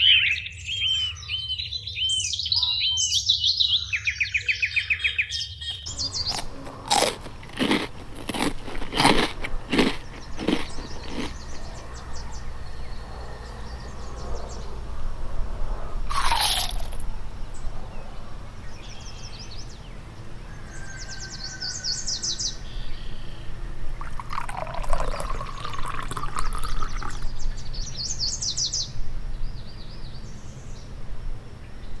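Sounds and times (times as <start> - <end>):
birds chirping trills: 0.0 - 31.0.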